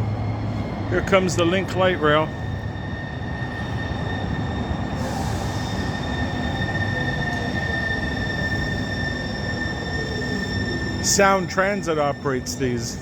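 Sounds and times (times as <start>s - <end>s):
light rail train rumbling: 0.0s - 13.0s
high wheel squeal: 1.8s - 13.0s.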